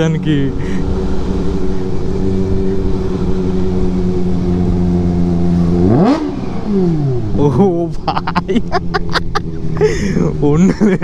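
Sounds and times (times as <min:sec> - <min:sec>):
motorcycle throttle rev: 0:00.0 - 0:10.7
motorcycle engine running: 0:00.0 - 0:11.0.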